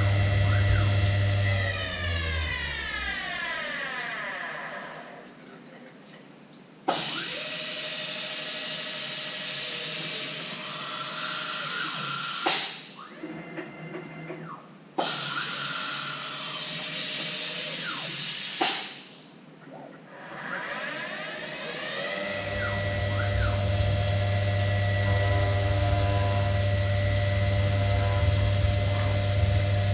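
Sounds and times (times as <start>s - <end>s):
cnc mill cutting hiss and whine: 0.0s - 5.2s, 6.9s - 19.2s, 20.2s - 29.9s.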